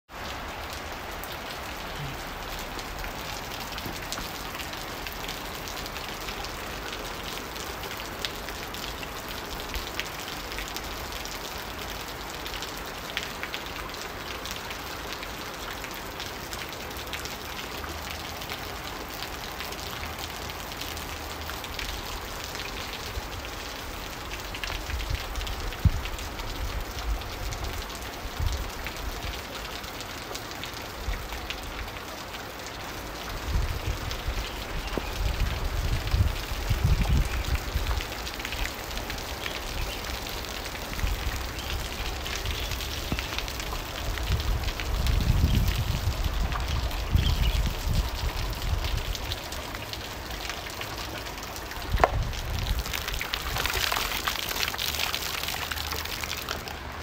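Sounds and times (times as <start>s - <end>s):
heavy rain splashing on water: 0.1s - 57.0s.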